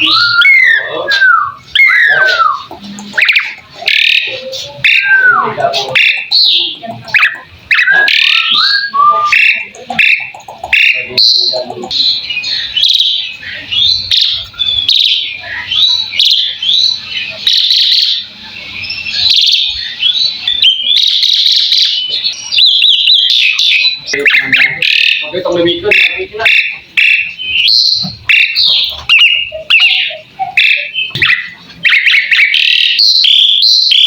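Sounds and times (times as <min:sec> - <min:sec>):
starling singing: 0:00.0 - 0:34.0.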